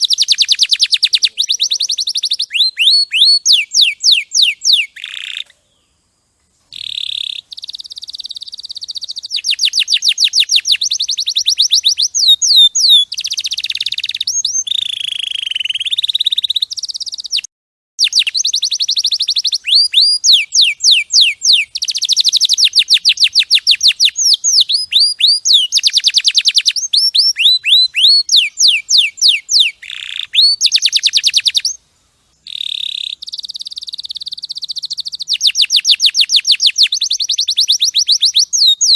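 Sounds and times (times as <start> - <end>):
canary singing trills: 0.0 - 5.9, 6.7 - 31.8, 32.4 - 38.9.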